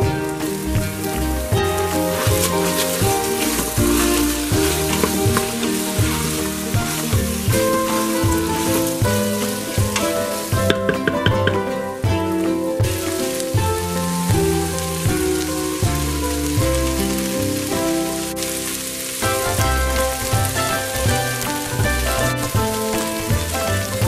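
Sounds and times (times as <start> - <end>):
background music: 0.0 - 24.0
food sizzling in oil: 0.0 - 24.0.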